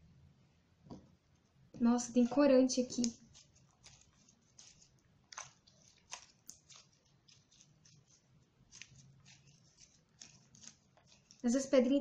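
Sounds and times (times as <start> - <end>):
slime kneaded by hand: 2.1 - 12.0.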